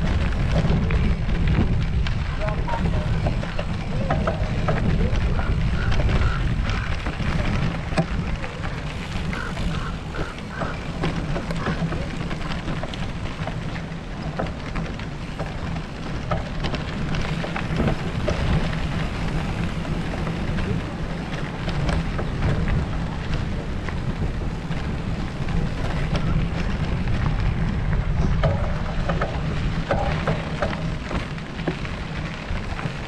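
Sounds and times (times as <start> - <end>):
small clicks and rattles: 0.0 - 33.0
steady crackle: 0.0 - 33.0
wind rumbling on microphone: 0.0 - 33.0.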